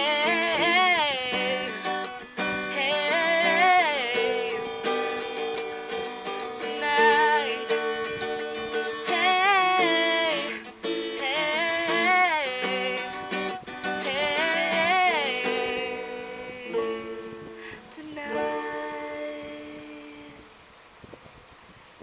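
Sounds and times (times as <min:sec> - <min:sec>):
person singing wordless melody: 0:00.0 - 0:20.5
strummed acoustic strings: 0:00.0 - 0:20.5.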